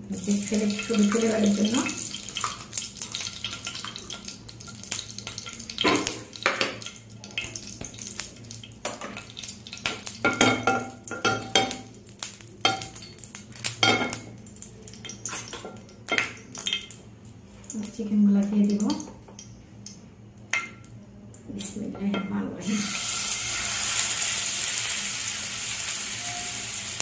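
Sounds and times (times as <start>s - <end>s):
faint sizzle of melting fat: 0.0s - 27.0s.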